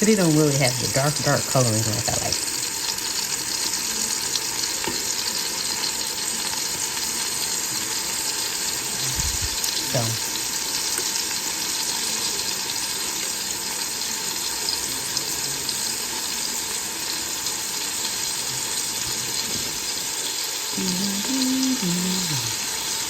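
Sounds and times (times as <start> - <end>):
meat sizzling in grease: 0.0 - 23.0.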